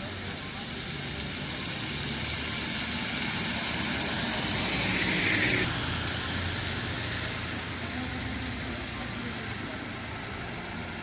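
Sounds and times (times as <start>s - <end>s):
car engine rumble: 0.0s - 11.0s
tyres hissing on wet road: 0.0s - 11.0s.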